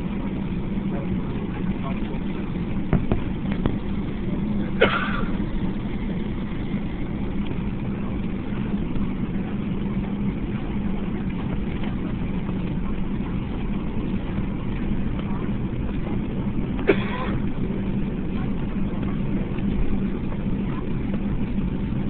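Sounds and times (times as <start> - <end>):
aircraft cabin engine drone: 0.0 - 22.0.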